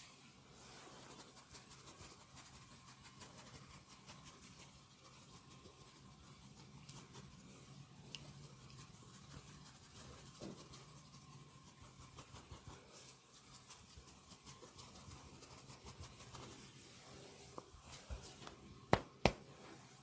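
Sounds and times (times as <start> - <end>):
low steady hum: 0.0 - 20.0
hands rubbing skin: 0.6 - 20.0.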